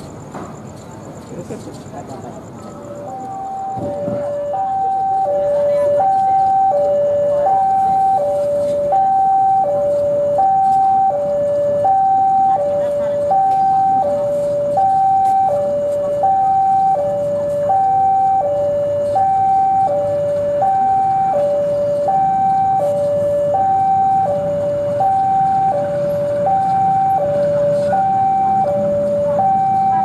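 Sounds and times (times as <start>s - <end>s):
locomotive low rumble: 0.0s - 30.0s
two-tone warning alarm: 2.4s - 30.0s.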